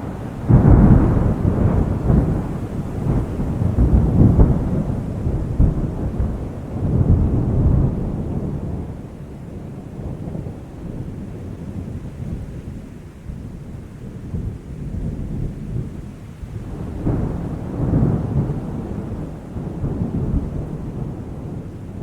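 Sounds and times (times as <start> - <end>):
rain falling: 0.0 - 22.0
thunder rolling and rumbling: 0.0 - 22.0.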